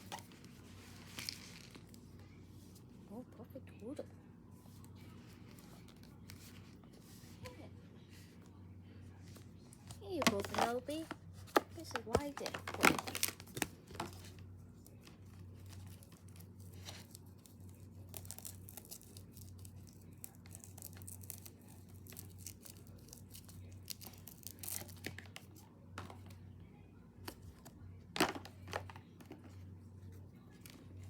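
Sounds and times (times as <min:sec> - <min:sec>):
rustling and crinkling: 0:00.0 - 0:03.0, 0:04.5 - 0:26.5, 0:27.2 - 0:31.0.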